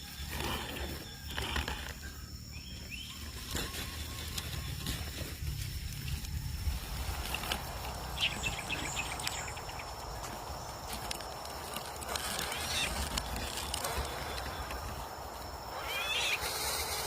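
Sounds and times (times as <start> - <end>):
birds chirping: 0.0 - 17.0
outdoor background noise: 0.0 - 17.0.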